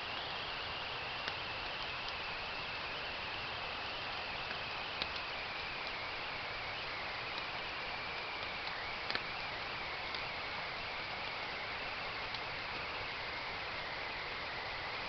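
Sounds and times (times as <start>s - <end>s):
faint wavering whine: 0.0s - 15.0s
steady hiss: 0.0s - 15.0s.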